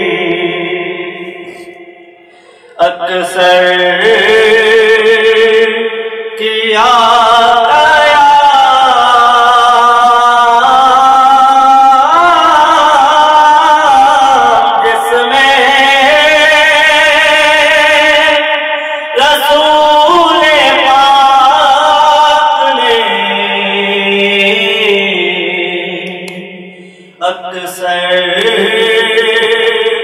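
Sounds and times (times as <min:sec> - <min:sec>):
man chanting a song: 0:00.0 - 0:30.0.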